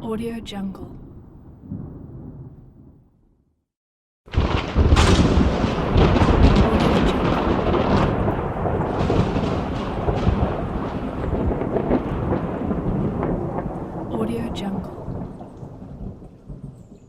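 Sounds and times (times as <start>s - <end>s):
thunder crack and rumble: 0.9s - 3.4s, 4.3s - 17.0s.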